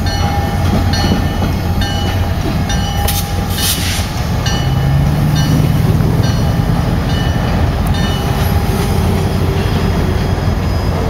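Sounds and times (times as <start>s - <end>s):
freight train cars rumbling: 0.0s - 11.0s.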